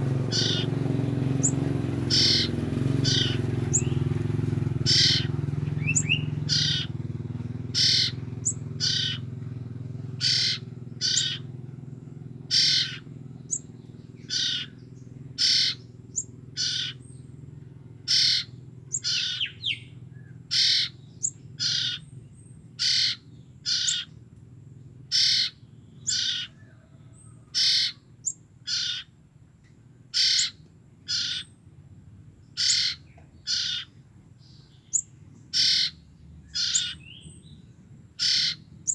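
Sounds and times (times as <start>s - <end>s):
chicks giving raspy calls: 0.0s - 24.2s, 25.1s - 29.2s, 30.1s - 31.6s, 32.4s - 38.9s.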